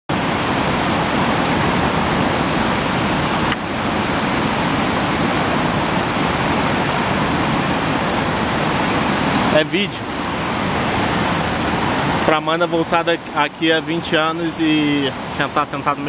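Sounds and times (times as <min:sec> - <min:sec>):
whitewater rushing over rock: 0:00.1 - 0:16.0.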